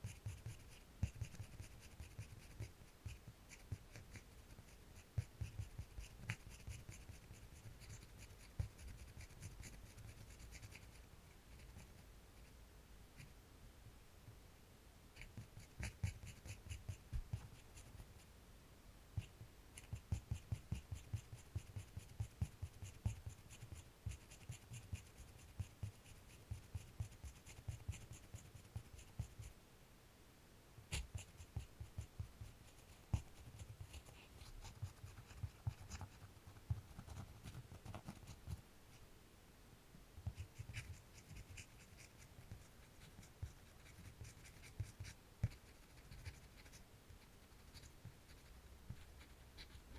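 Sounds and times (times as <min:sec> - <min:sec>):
pencil scratching on paper: 0:00.0 - 0:12.0, 0:15.2 - 0:18.2, 0:19.2 - 0:29.5, 0:30.9 - 0:38.6, 0:40.2 - 0:49.9.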